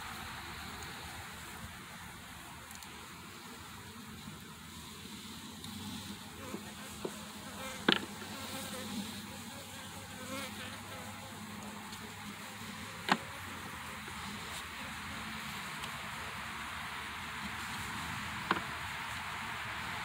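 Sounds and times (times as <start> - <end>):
bees buzzing: 0.0 - 16.6.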